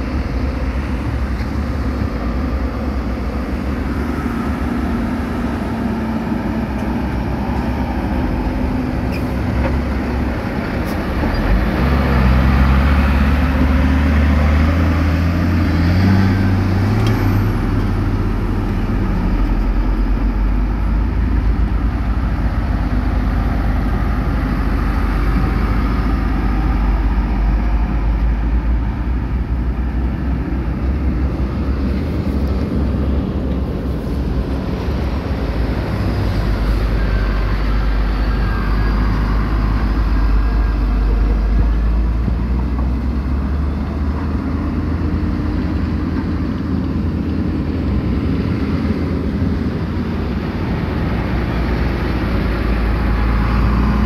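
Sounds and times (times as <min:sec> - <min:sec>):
diesel construction machinery running: 0:00.0 - 0:54.0.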